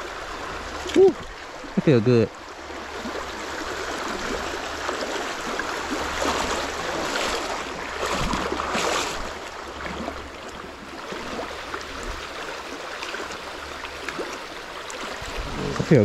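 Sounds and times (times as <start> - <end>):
water splashing as someone wades: 2.4 - 16.0.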